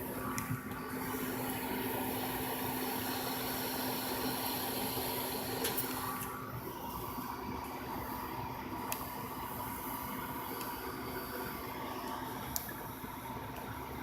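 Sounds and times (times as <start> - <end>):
cooling fans whirring: 0.0 - 14.0.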